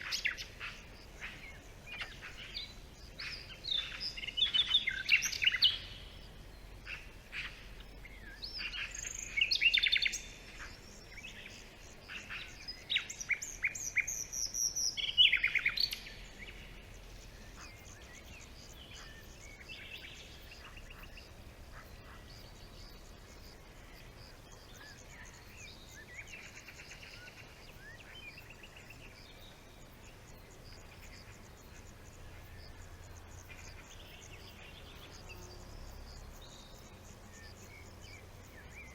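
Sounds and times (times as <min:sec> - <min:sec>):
birds chirping and trilling: 0:00.0 - 0:38.9
steady background hiss: 0:00.0 - 0:38.9.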